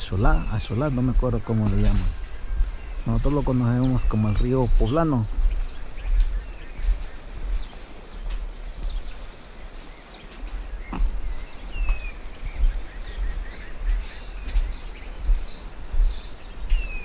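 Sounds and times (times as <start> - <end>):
birds chirping: 0.0 - 17.0
microphone rumble: 0.0 - 17.0.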